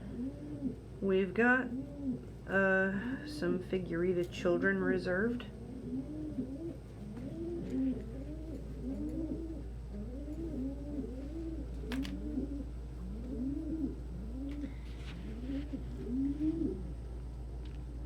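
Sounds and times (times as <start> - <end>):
pigeons cooing: 0.0 - 3.6, 5.4 - 18.0
steady low hum: 0.0 - 18.0.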